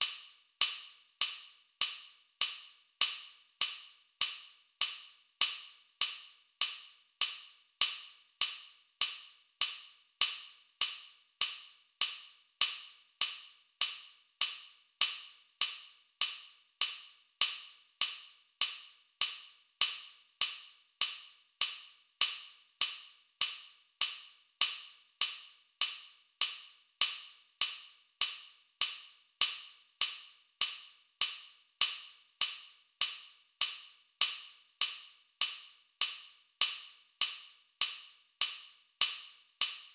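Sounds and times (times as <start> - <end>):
metronome clicks: 0.0 - 39.9.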